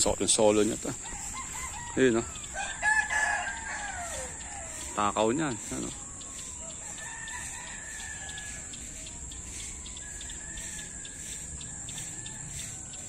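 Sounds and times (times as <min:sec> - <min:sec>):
distant roosters crowing: 0:00.0 - 0:13.0
high insect buzz: 0:00.0 - 0:13.0.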